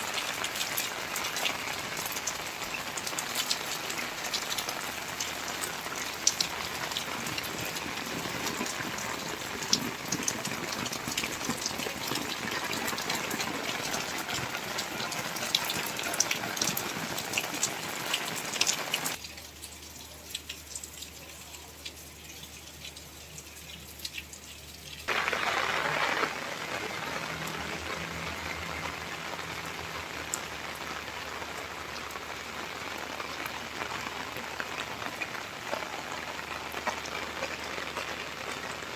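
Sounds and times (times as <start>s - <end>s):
rain falling: 0.0s - 38.9s
rush of water: 0.0s - 38.9s.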